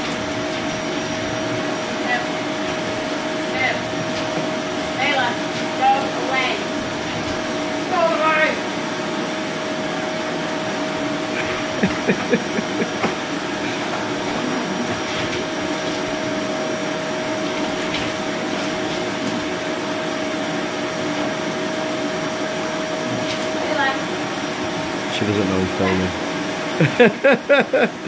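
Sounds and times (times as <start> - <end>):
vacuum cleaner whining: 0.0 - 28.0.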